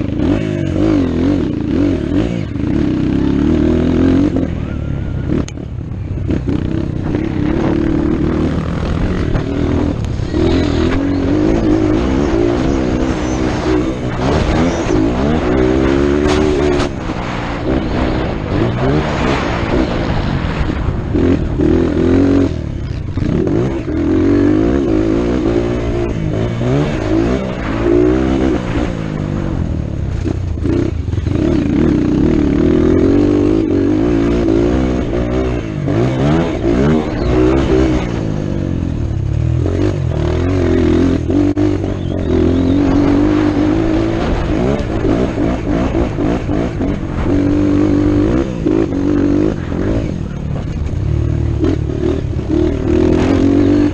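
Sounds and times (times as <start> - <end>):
motocross motorcycle engine revving: 0.0 - 53.9.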